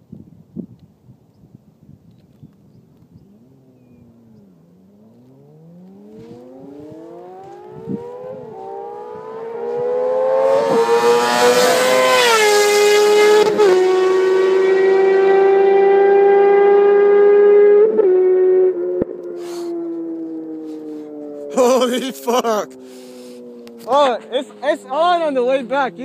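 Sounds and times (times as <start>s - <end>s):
sport motorcycles accelerating: 3.3s - 26.0s.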